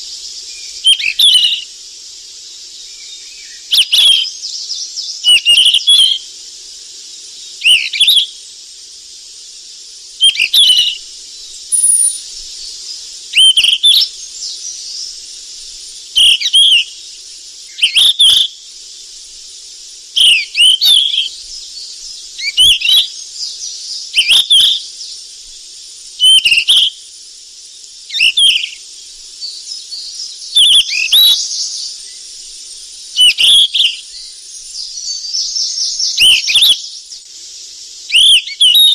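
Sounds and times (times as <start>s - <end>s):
flycatcher singing chirps: 0.0s - 8.7s, 9.4s - 38.9s
steady high hiss: 0.0s - 38.9s.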